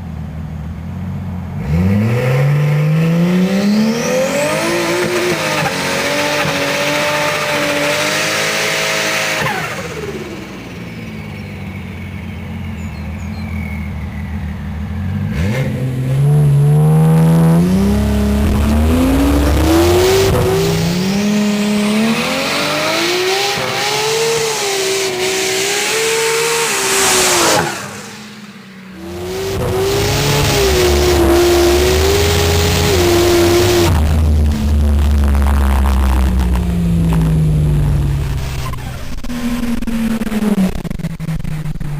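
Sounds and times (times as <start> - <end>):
car engine accelerating: 1.0 - 41.9.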